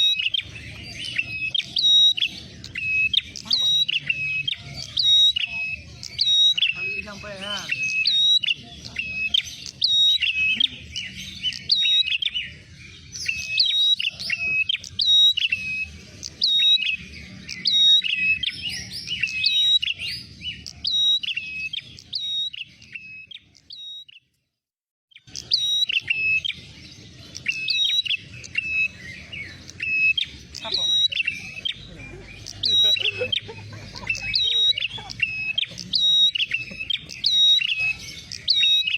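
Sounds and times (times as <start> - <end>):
bird chirping rapidly: 0.0 - 24.3, 25.1 - 38.9.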